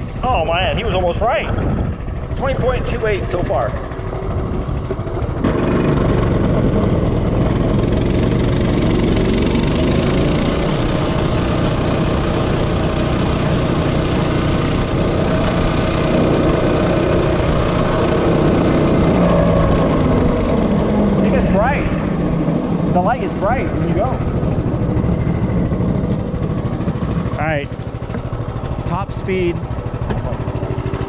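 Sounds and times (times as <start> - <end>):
wind noise on microphone: 0.0 - 27.3
minibike engine running: 0.0 - 31.0.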